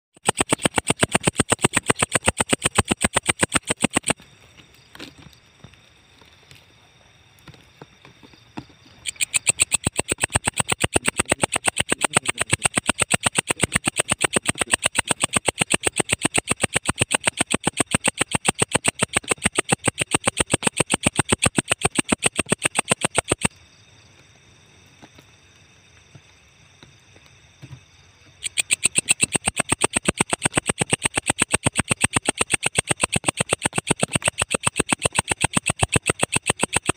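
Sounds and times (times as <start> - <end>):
insect ticking call: 0.2 - 6.7, 7.4 - 36.9.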